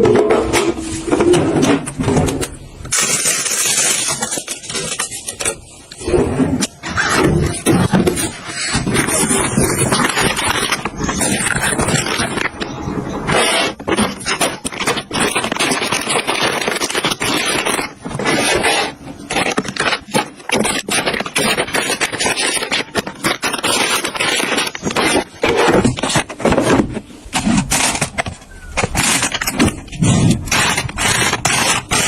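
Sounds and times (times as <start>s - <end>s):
objects scraping and clattering: 0.0s - 32.0s.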